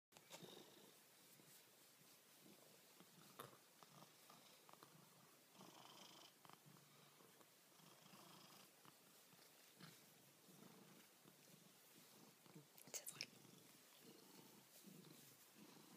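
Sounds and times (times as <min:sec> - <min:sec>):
cat purring: 0:00.2 - 0:15.9.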